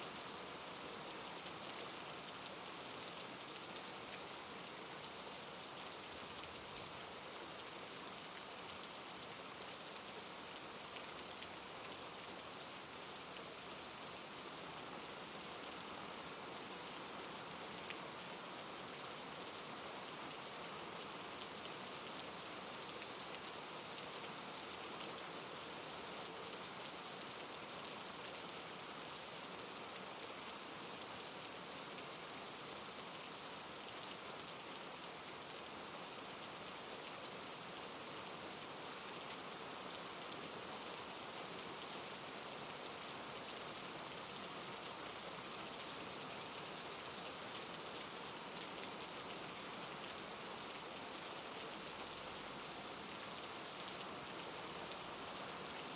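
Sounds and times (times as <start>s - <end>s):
soft rain patter: 0.0s - 55.9s.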